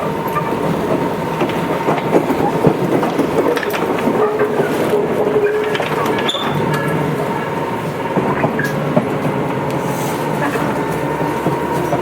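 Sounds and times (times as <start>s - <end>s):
electric train running: 0.0s - 12.0s
wheels clacking over rail joints: 0.0s - 12.0s.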